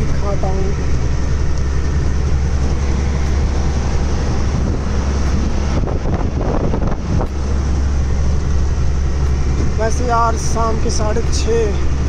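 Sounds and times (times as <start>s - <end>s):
truck engine and road drone: 0.0s - 12.0s
wind buffeting microphone: 0.0s - 12.0s.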